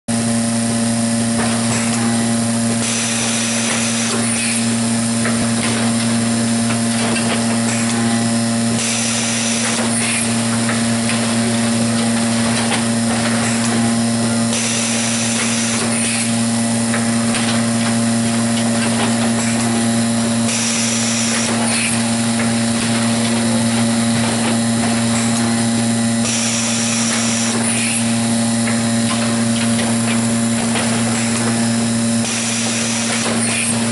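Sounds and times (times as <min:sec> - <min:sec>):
electrical hum: 0:00.1 - 0:33.9
pneumatic air hiss: 0:01.6 - 0:06.4, 0:07.0 - 0:33.9.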